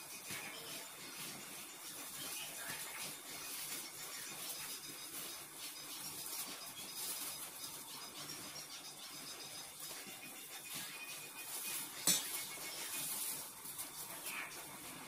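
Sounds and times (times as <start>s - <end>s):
gloved hands rustling and scraping: 0.0s - 15.0s.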